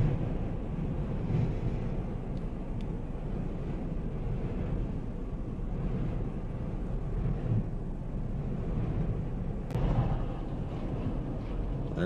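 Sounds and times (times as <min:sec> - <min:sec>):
gusty wind on microphone: 0:00.0 - 0:12.0.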